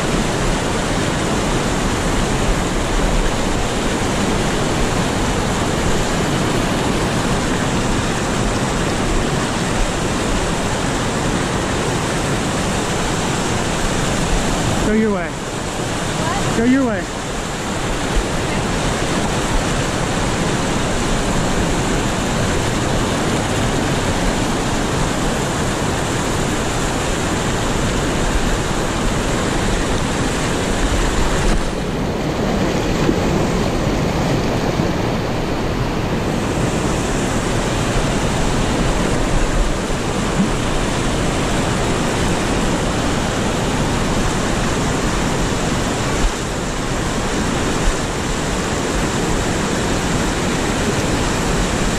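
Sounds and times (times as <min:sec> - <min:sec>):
whitewater rushing over rocks: 0:00.0 - 0:51.9.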